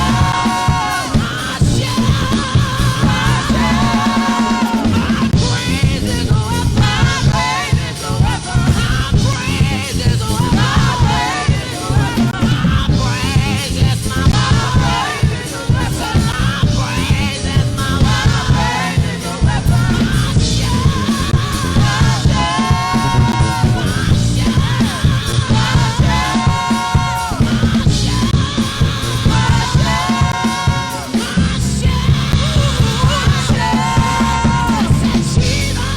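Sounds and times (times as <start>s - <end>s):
live worship band music: 0.0s - 35.9s
voices singing: 0.0s - 35.9s.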